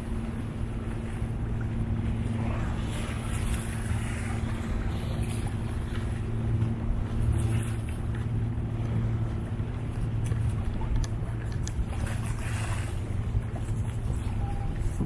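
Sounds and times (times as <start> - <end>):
low engine hum: 0.0 - 15.0
low rumble: 0.0 - 15.0.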